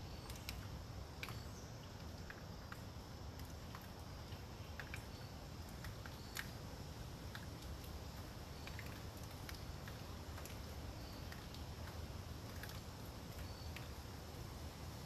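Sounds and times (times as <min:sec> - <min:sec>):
water drops ticking on leaves: 0:00.0 - 0:15.0.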